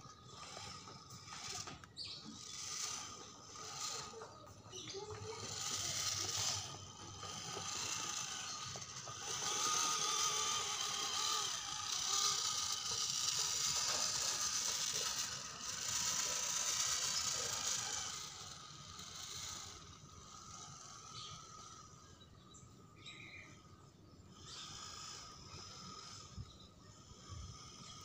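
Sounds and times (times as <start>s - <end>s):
toy car electric motor whining: 0.0s - 28.0s.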